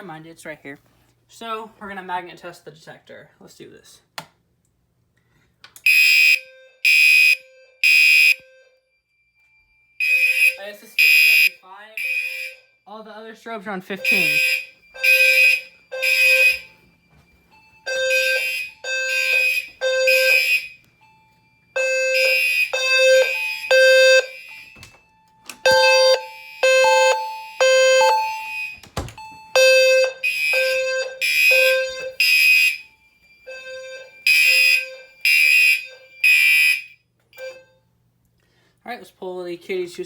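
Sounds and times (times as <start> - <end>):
fire alarm horns: 5.8 - 38.0.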